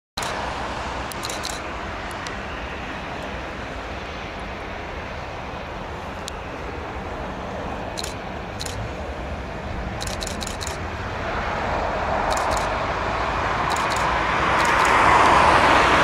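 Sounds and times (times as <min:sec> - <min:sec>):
jet engines idling: 0:00.2 - 0:16.0.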